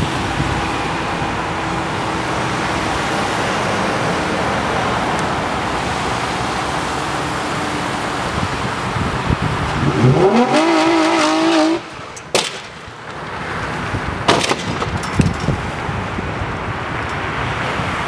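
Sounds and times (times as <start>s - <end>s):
cars driving on snowy road: 0.0s - 18.0s.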